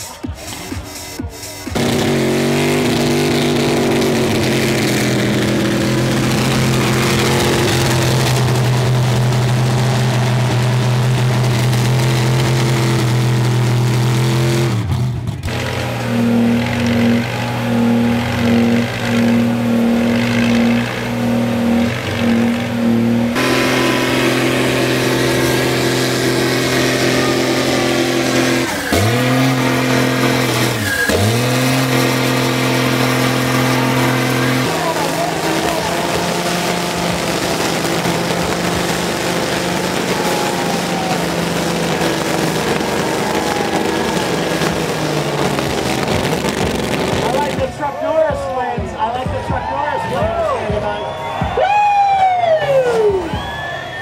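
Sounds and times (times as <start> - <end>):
truck engines revving high: 0.0 - 54.0.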